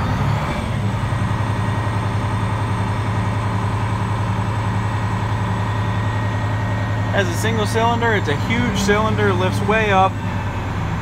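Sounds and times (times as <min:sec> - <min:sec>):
diesel truck engine hum: 0:00.0 - 0:11.0.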